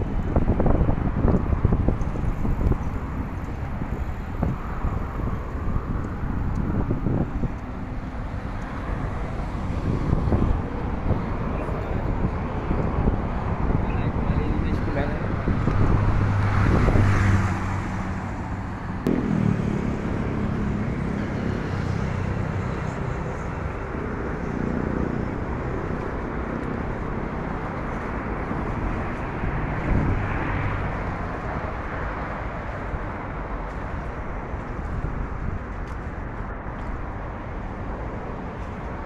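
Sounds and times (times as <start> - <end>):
vehicles passing: 0.0 - 39.0.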